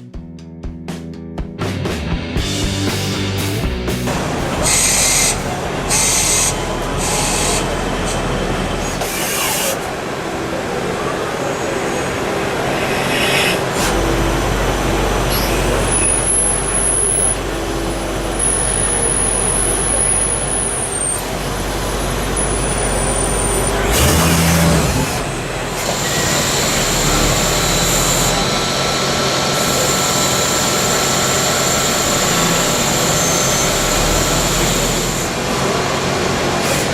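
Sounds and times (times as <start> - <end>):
lathe machining metal: 4.1 - 36.9.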